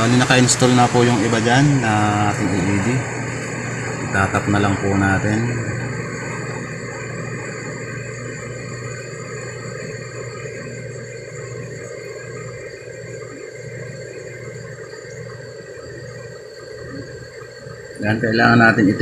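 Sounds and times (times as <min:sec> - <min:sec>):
high whining tones: 0:00.0 - 0:19.0
steady low hum: 0:00.0 - 0:19.0.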